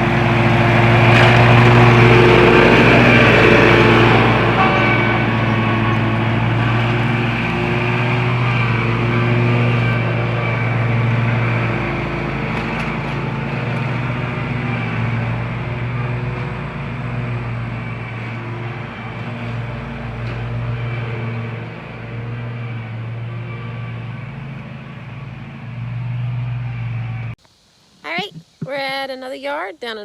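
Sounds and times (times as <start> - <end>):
lawn mower engine running: 0.0 - 27.4.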